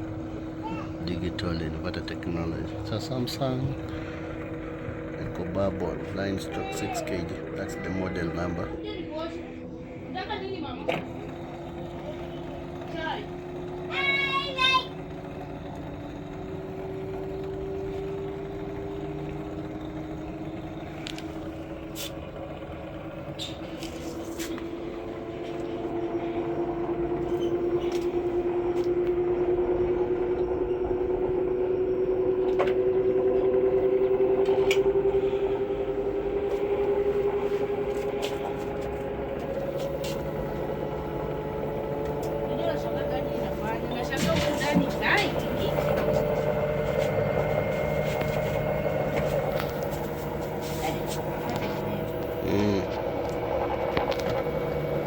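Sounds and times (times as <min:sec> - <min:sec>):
washing machine motor whine: 0:00.0 - 0:55.0.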